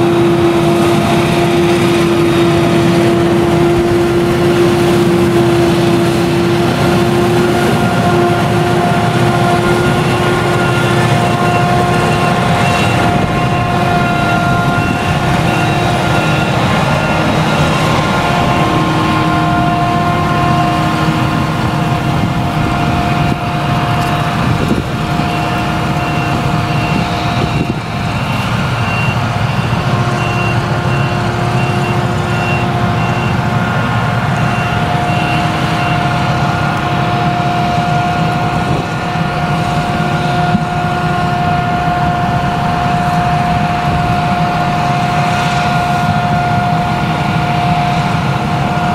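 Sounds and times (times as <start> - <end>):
engine working under load: 0.0 - 48.9.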